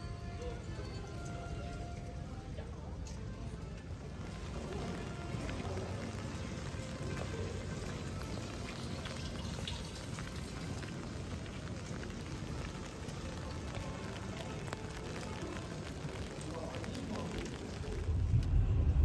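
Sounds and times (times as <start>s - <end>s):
rain drops ticking on umbrella: 0.2s - 19.0s.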